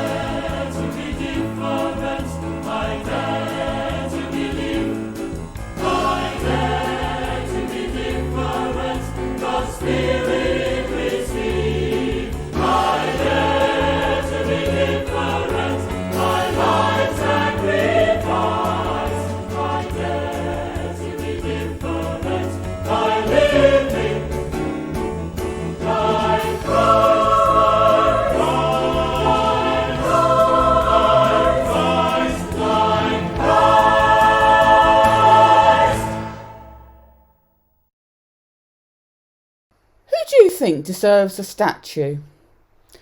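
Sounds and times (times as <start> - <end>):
choir singing worship song: 0.0 - 37.0
instrumental backing with bass: 0.0 - 37.0.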